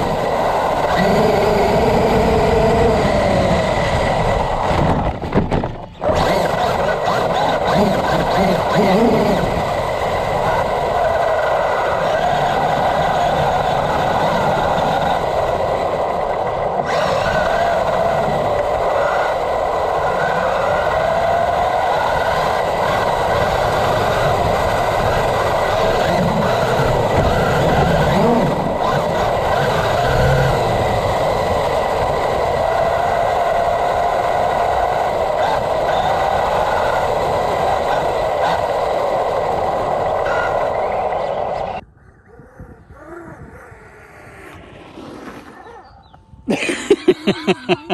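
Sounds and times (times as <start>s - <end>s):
toy truck electric motor whining: 0.0s - 5.2s, 5.9s - 41.8s.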